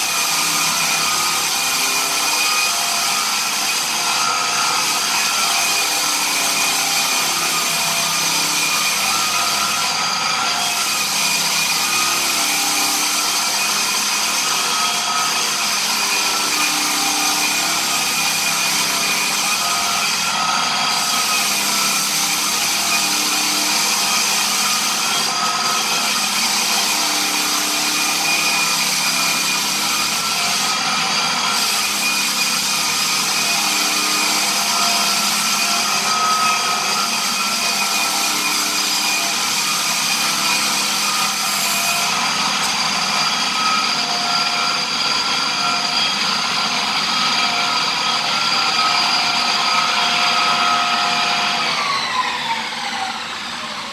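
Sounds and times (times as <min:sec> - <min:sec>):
floor sander humming: 0:00.0 - 0:53.9.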